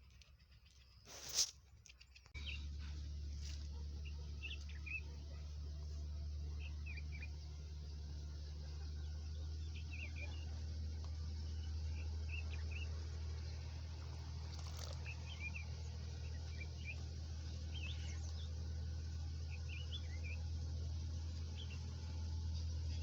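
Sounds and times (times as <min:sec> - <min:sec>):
small birds chirping: 0:00.0 - 0:23.0
steady low hum: 0:02.4 - 0:23.0.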